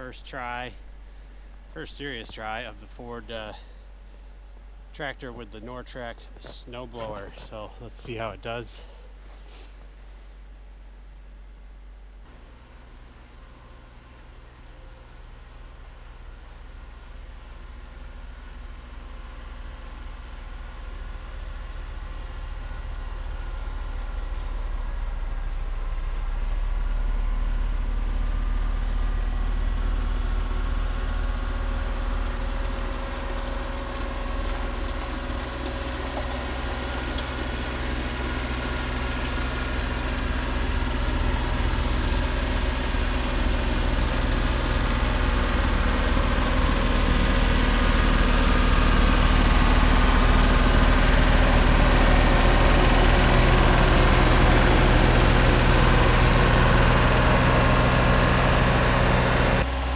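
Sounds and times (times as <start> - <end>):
tractor engine drone: 0.0 - 9.2, 12.2 - 59.9.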